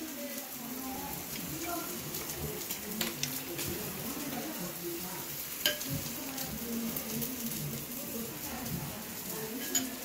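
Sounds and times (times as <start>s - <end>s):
skewers sizzling on grill: 0.0s - 10.0s.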